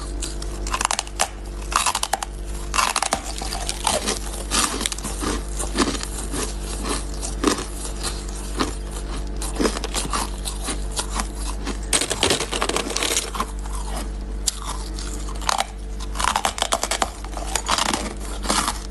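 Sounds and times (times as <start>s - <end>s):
ice crunching being chewed: 0.0s - 18.9s
low hum: 0.0s - 18.9s.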